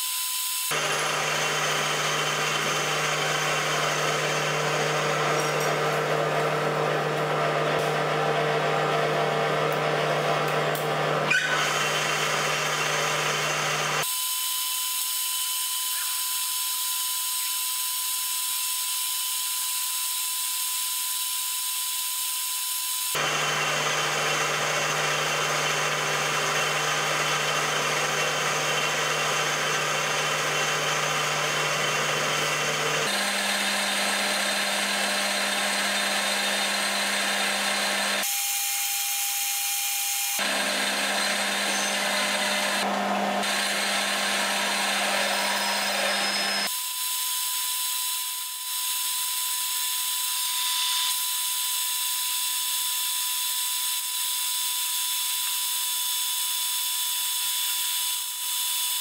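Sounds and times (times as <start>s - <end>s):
drill boring into metal rod: 0.0s - 7.5s, 11.1s - 59.0s
metal lathe cutting metal: 0.1s - 59.0s.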